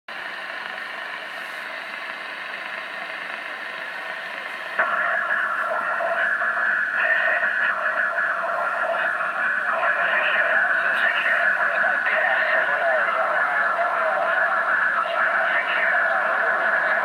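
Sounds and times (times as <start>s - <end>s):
radio static hissing: 0.1s - 17.0s
radio transmission: 0.1s - 17.0s.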